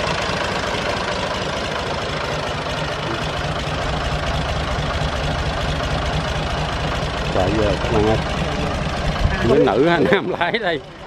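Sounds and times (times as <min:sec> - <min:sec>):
tractor diesel engine knocking: 0:00.0 - 0:11.0.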